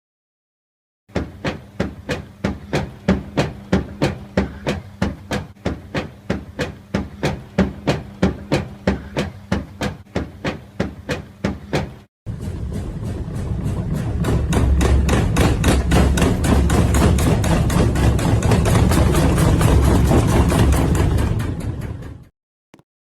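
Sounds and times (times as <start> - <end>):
washing machine hum: 1.1 - 22.3
washing machine knocking: 1.1 - 22.3.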